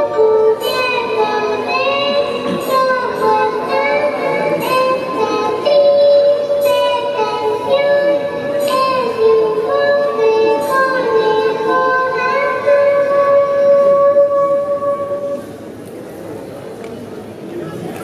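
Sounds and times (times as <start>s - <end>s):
backing music: 0.0s - 15.4s
high synthetic singing voice: 0.0s - 15.4s.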